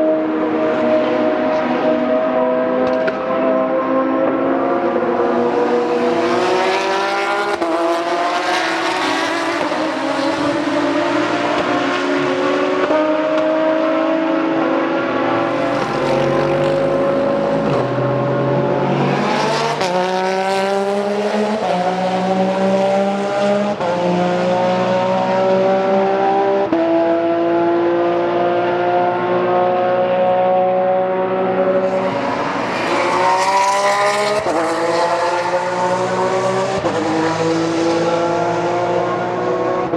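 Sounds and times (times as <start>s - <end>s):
racing car engine at high revs: 0.0s - 39.9s.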